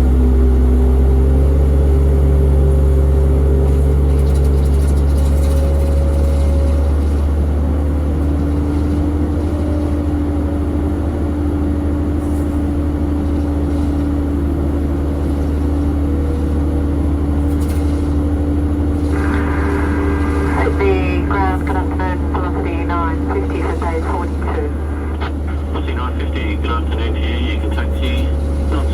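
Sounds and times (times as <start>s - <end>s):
jet engines idling: 5.5s - 28.9s.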